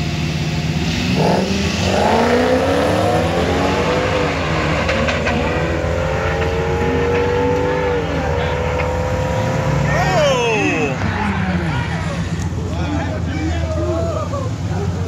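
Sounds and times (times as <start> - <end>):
drag car engines revving: 0.0 - 15.0.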